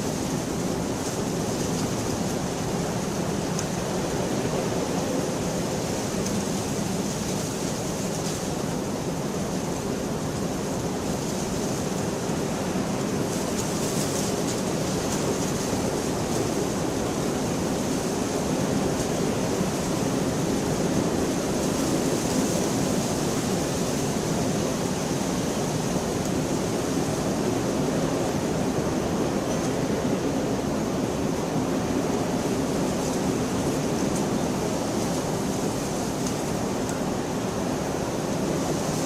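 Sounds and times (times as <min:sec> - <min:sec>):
steady rainfall hiss: 0:00.0 - 0:39.0.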